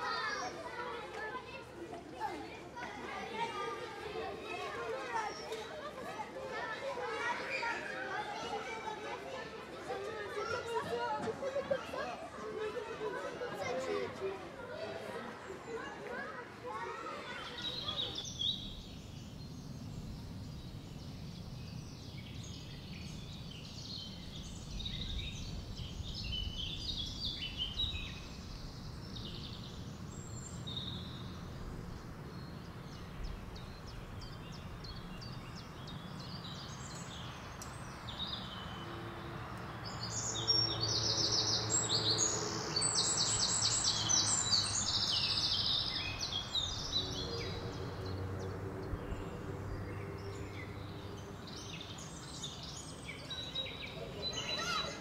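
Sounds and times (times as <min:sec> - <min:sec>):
birds chirping and twittering: 0:00.0 - 0:55.0.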